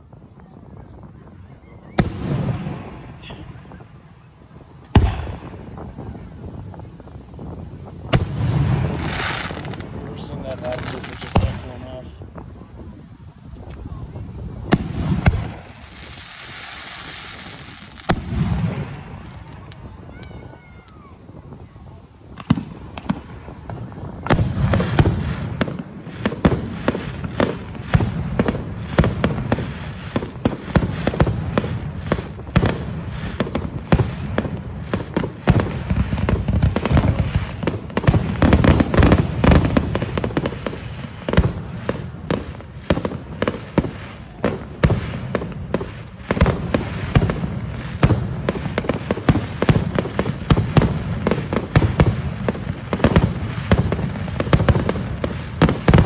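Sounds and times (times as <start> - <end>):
fireworks barrage of bangs: 0.2 - 13.0, 13.6 - 56.0.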